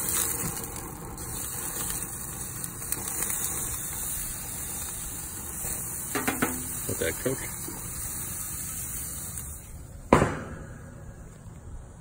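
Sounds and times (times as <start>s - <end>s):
steak sizzling on a grill: 0.0s - 10.1s
low steady rumble: 0.0s - 12.0s.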